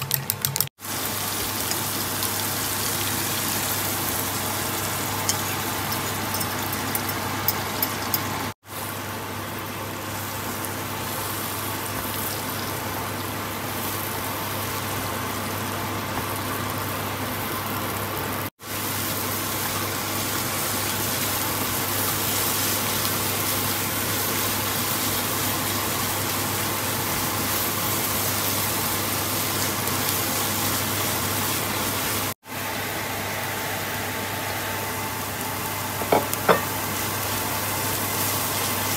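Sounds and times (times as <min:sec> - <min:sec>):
eggs sizzling in wok: 0:00.8 - 0:38.9.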